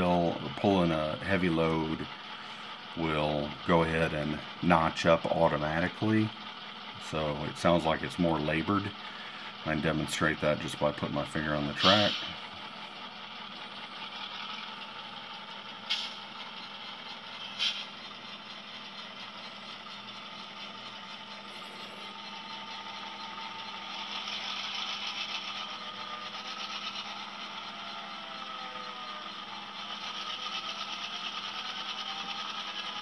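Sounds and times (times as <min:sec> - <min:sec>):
model diesel engine sound from speaker: 0:00.0 - 0:33.0.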